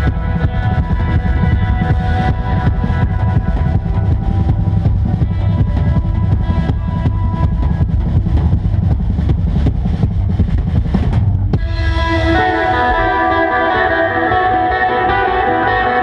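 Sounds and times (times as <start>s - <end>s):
rock band playing loud: 0.0s - 16.0s.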